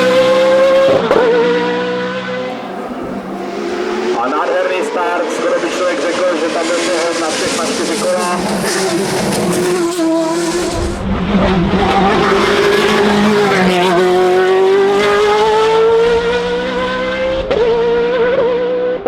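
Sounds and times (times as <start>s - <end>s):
race car engine at high revs: 0.0s - 19.0s.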